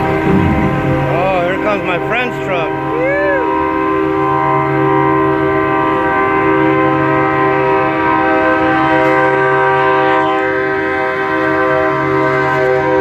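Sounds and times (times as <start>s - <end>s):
truck air horn blast: 0.0s - 13.0s.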